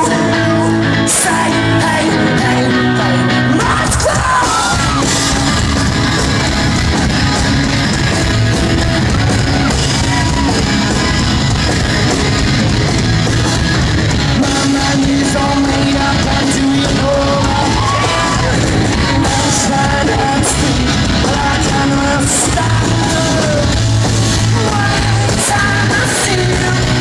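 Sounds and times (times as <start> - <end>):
rock band playing live: 0.0 - 27.0
voices singing and yelling: 0.0 - 27.0.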